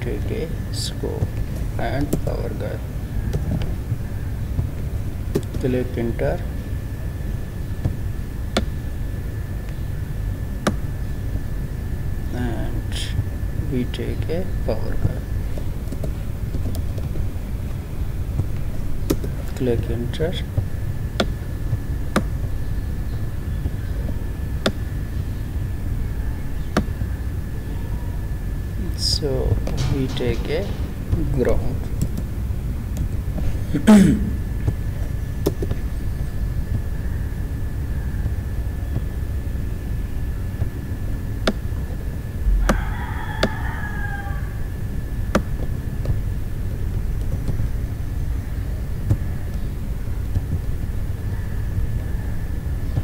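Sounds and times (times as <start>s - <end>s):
faint high-pitched whine: 0.0s - 53.0s
low background rumble: 0.0s - 53.0s.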